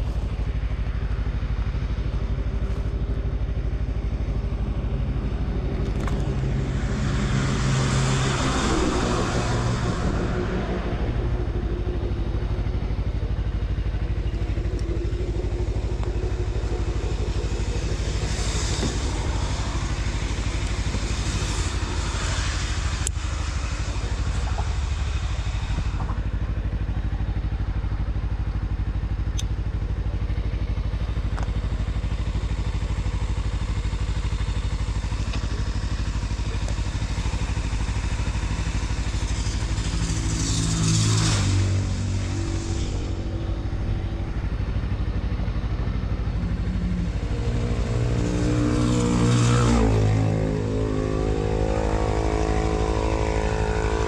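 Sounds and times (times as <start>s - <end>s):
road noise hiss: 0.0s - 54.0s
vehicle engine running: 0.0s - 54.0s.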